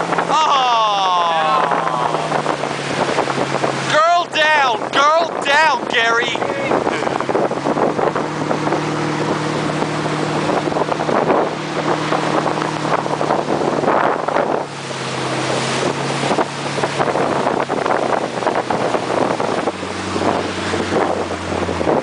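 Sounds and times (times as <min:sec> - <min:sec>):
wind buffeting microphone: 0:00.0 - 0:00.4, 0:01.0 - 0:22.0
motorboat engine running: 0:00.0 - 0:22.0
water rushing past hull: 0:00.0 - 0:22.0.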